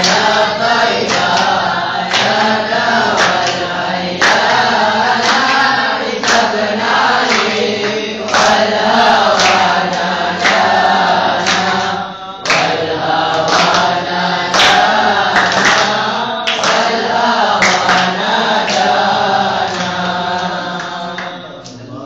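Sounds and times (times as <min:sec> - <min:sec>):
hand claps: 0:00.0 - 0:21.9
boys singing in unison: 0:00.0 - 0:22.0.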